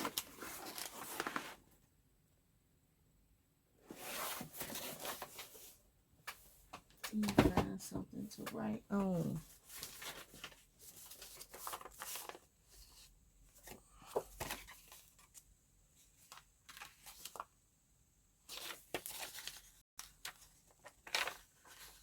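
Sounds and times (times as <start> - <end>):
paper packaging rustling: 0.0 - 1.7, 3.9 - 7.8, 8.4 - 15.4, 16.0 - 17.5, 18.5 - 22.0.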